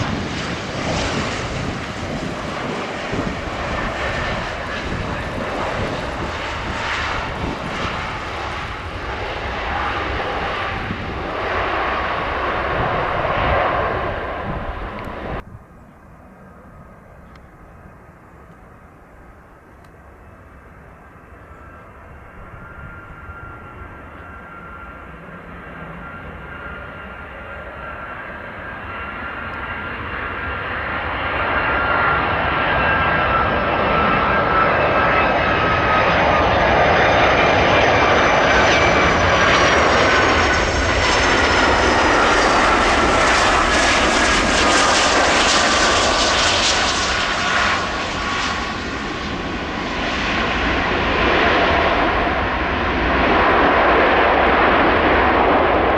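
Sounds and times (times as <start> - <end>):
jet engines on landing approach: 0.0 - 55.9.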